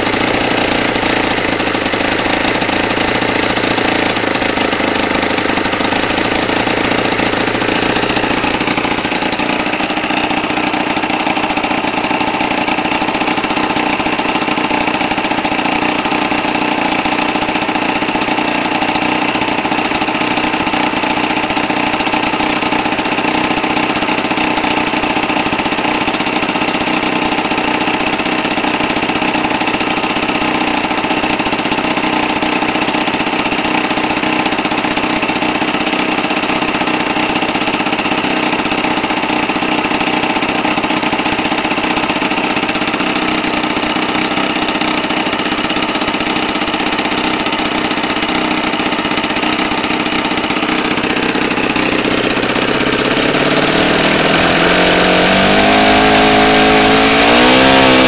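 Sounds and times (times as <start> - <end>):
model engine running: 0.0 - 58.0.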